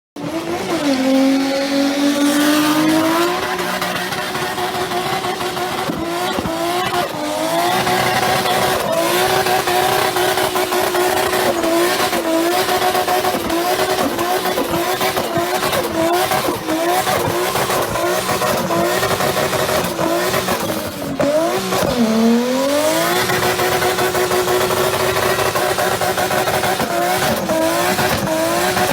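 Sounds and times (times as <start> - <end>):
car engine revving: 0.2 - 28.9.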